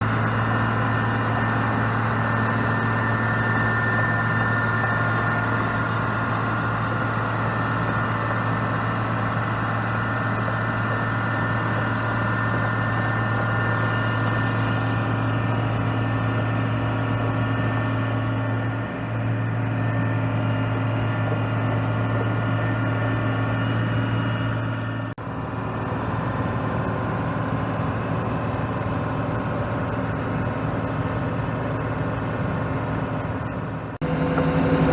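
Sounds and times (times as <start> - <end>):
diesel engine humming: 0.0 - 34.9.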